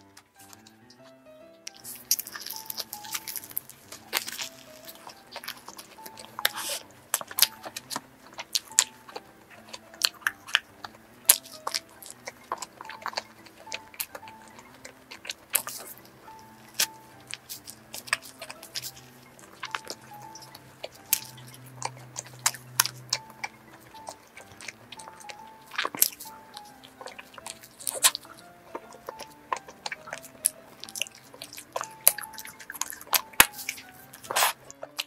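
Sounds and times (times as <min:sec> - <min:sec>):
chewing: 0:00.0 - 0:35.0
flaky pastry crunching: 0:00.0 - 0:35.0
soft background music: 0:00.0 - 0:35.0.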